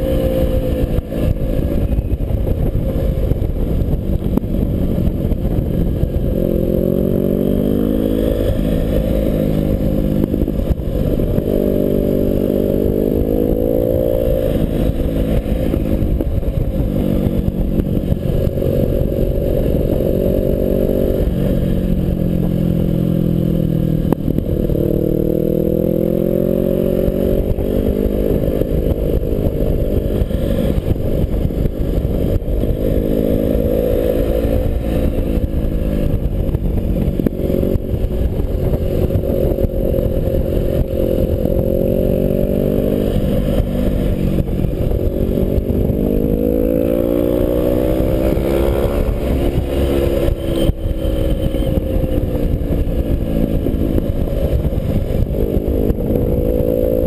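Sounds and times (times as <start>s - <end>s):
low wind rumble: 0.0s - 57.0s
motorcycle engine revving: 0.0s - 57.0s.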